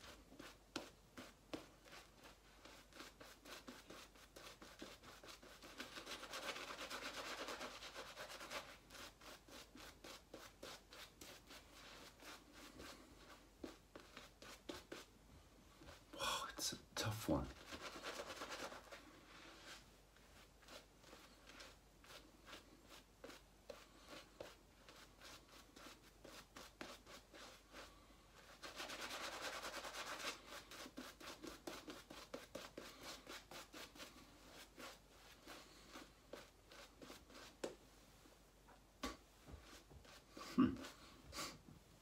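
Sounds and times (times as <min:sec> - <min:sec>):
shaving brush scrubbing lather: 0:00.0 - 0:15.1, 0:17.5 - 0:37.6.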